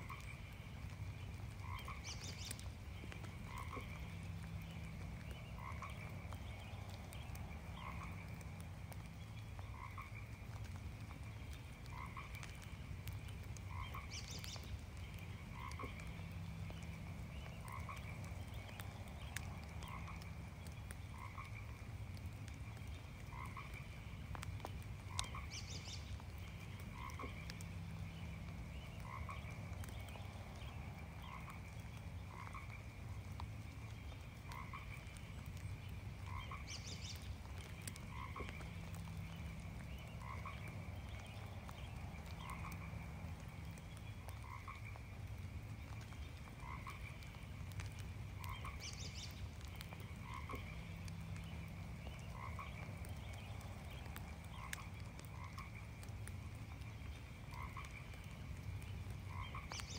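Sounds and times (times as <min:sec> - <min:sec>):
frogs croaking: 0:00.0 - 0:59.9
light rain patter: 0:00.0 - 0:59.9.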